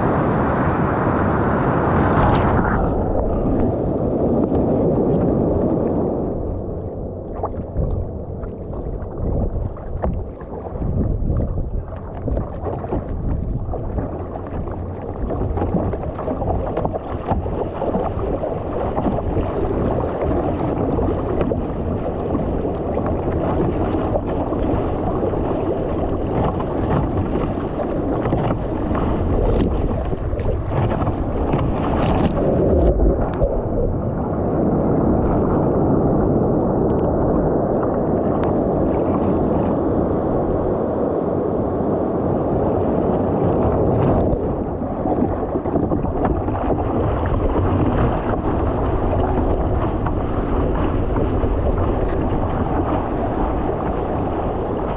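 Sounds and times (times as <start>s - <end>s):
breaking whitewater: 0.0s - 54.9s
paddle splashes: 0.0s - 54.9s
seawater rushing along hull: 0.0s - 54.9s.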